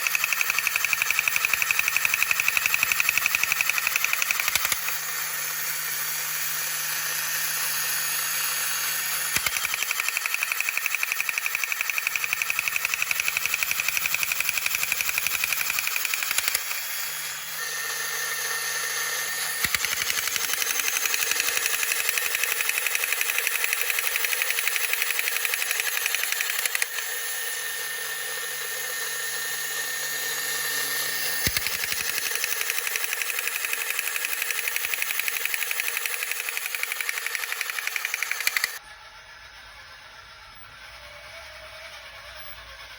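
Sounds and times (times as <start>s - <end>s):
toy motor and gears whirring: 0.0s - 42.9s.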